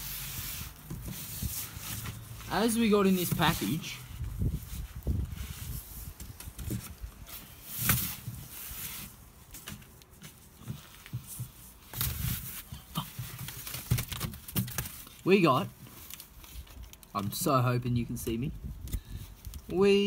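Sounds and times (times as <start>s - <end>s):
plastic mailer rustling: 0.0s - 17.7s.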